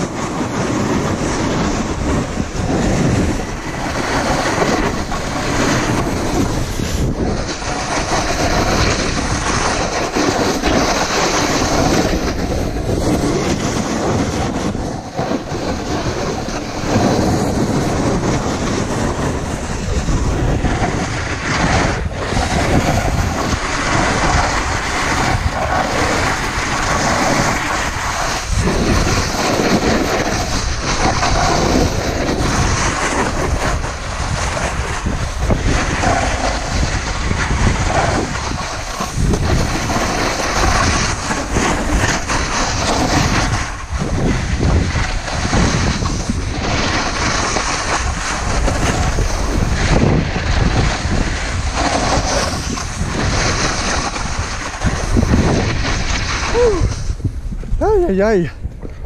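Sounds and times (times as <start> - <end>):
snowboard scraping on snow: 0.0 - 59.0
wind buffeting microphone: 0.0 - 59.0.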